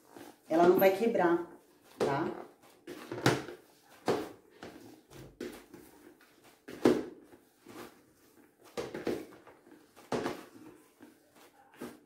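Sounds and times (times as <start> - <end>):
dough kneading thumps in bowl: 0.1 - 12.0.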